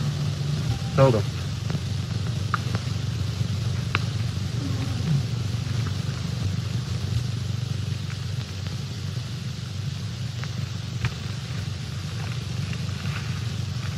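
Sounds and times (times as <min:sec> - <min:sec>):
film soundtrack hum and hiss: 0:00.0 - 0:13.9.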